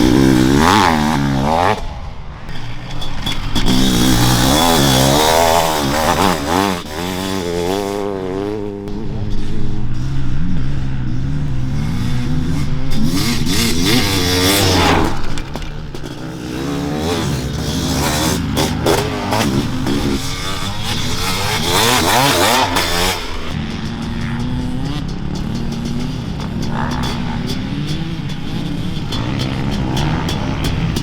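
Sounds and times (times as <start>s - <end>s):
two-stroke motorcycle engine revving: 0.0s - 31.0s.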